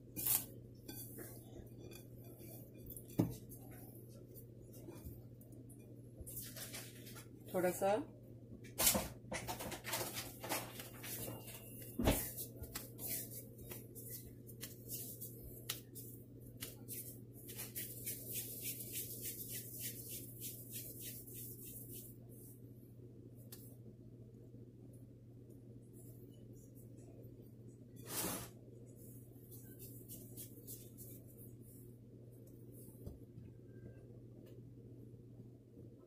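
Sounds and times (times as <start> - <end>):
steady low hum: 0.0 - 8.8, 10.8 - 36.0.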